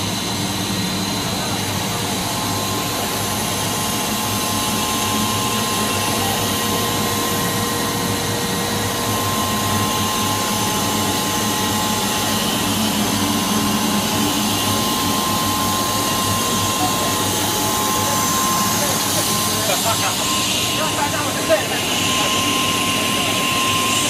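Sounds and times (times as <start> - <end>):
extrusion machine drone with whine: 0.0 - 24.0.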